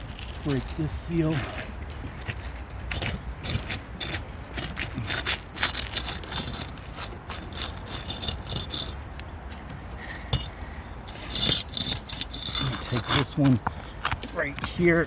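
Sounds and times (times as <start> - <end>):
hatchet scraping under shingles: 0.0 - 15.0.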